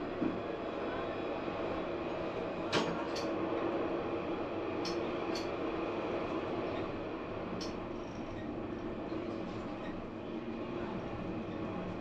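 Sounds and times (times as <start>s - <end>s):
tram hum on track: 0.0s - 12.0s.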